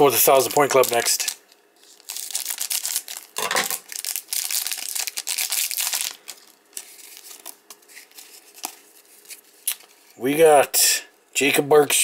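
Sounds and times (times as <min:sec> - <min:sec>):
plastic pack crinkling and tearing: 0:00.1 - 0:10.0.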